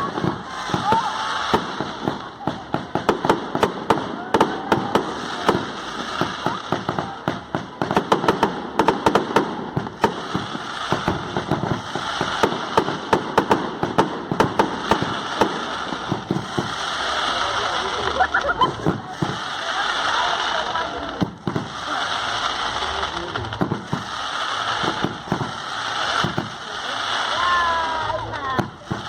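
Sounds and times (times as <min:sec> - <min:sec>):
firecracker cracks and bangs: 0:00.0 - 0:29.0
fireworks hiss: 0:00.0 - 0:29.0.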